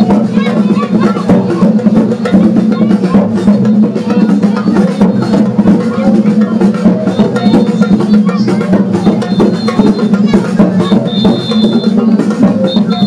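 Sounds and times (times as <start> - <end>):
drumming and percussion: 0.0 - 13.0.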